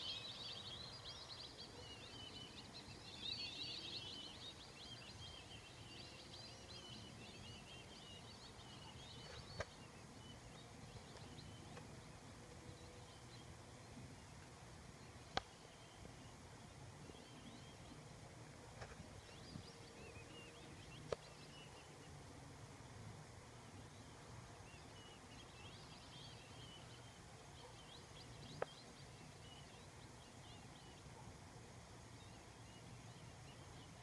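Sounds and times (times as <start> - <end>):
low steady background noise: 0.0 - 34.0.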